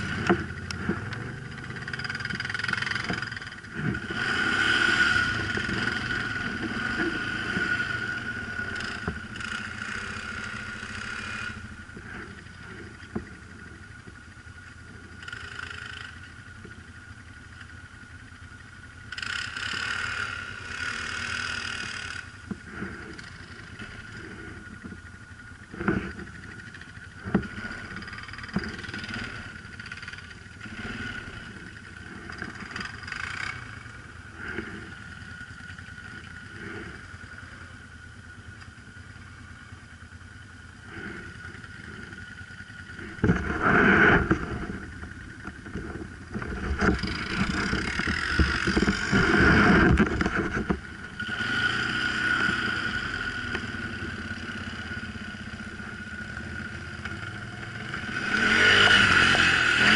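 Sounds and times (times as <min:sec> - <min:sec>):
quad bike engine idling: 0:00.0 - 0:59.9
quad bike revving up slope: 0:00.0 - 0:59.9.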